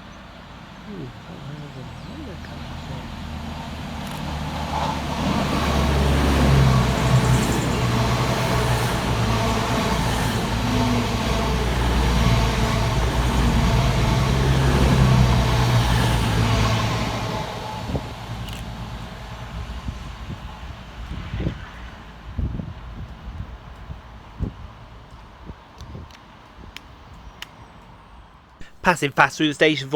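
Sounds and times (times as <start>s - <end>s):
diesel train engines droning: 0.0s - 29.9s.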